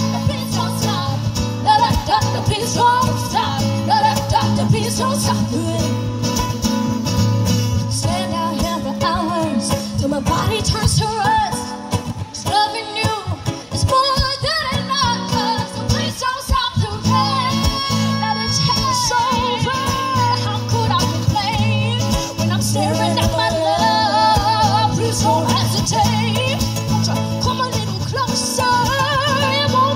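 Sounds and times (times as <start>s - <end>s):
women singing pop song: 0.0s - 6.5s, 7.7s - 29.9s
strummed acoustic guitars: 0.0s - 29.9s.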